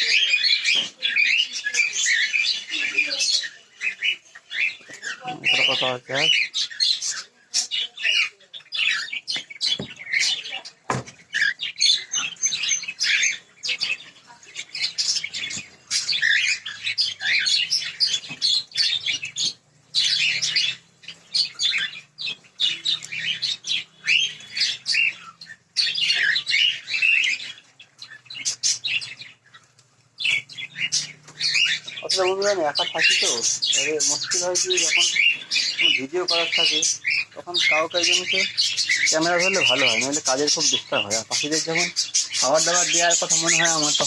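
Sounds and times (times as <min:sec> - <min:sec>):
cockatiels chirping and calling: 0:00.0 - 0:44.0.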